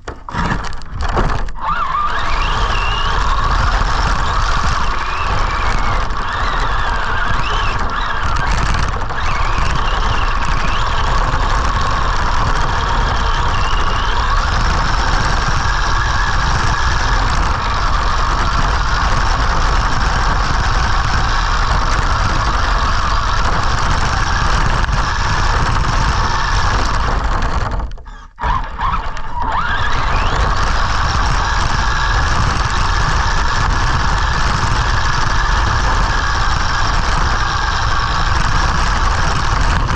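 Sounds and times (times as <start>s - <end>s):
rc truck electric motor whining: 0.3s - 39.9s.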